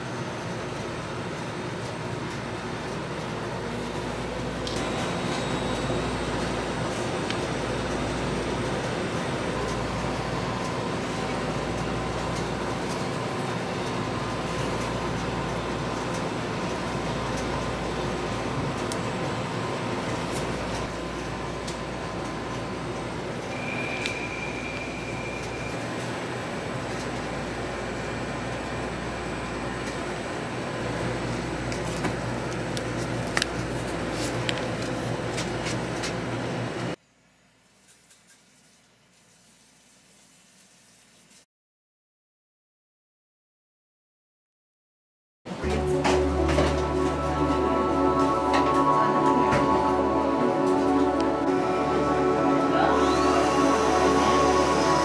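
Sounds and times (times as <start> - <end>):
machinery hum and rumble: 0.0 - 37.0, 45.5 - 55.0.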